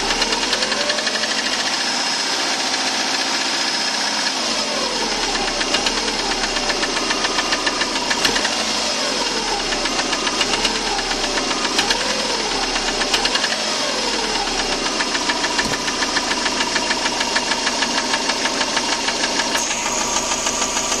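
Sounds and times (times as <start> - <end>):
engine running with rapid knock: 0.0 - 21.0.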